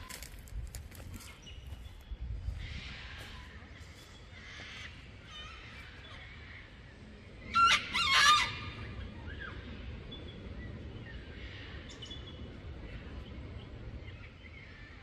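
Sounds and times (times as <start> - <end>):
harsh bird calls: 1.2 - 15.0.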